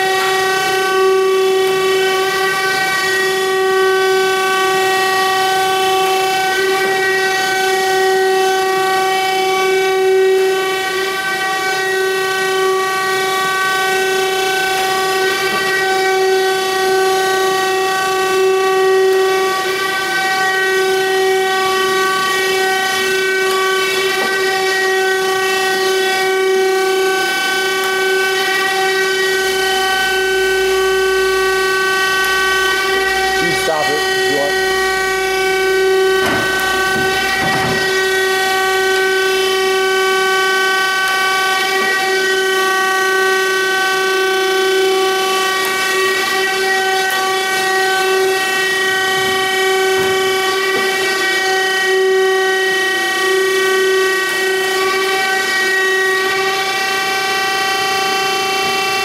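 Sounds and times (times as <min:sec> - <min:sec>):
surface grinder whining: 0:00.0 - 0:59.0.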